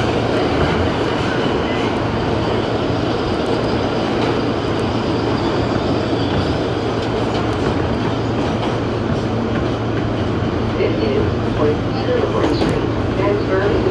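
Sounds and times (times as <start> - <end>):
subway train rumbling: 0.0 - 13.9.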